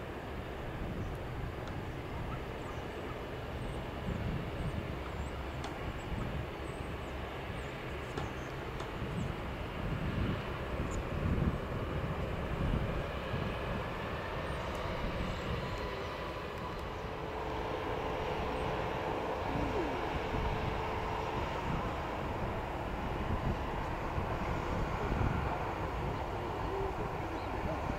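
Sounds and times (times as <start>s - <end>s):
turboprop engines running: 0.0s - 27.9s
wind rumbling on microphone: 0.0s - 27.9s.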